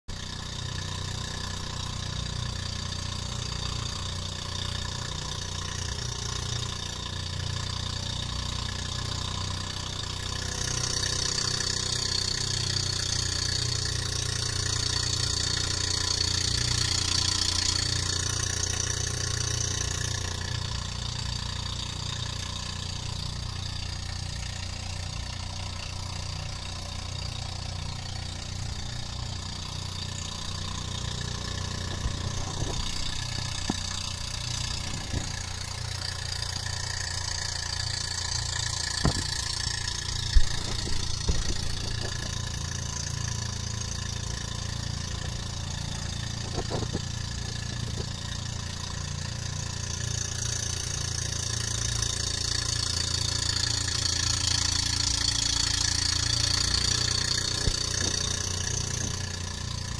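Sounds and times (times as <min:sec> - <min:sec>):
boat engine drone: 0:00.1 - 0:59.9.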